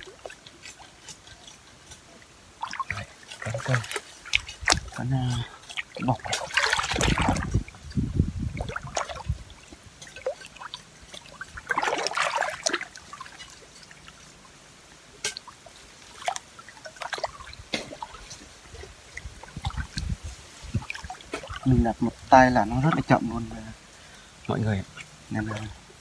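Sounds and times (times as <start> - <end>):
stream water splashing and trickling: 0.0 - 26.0.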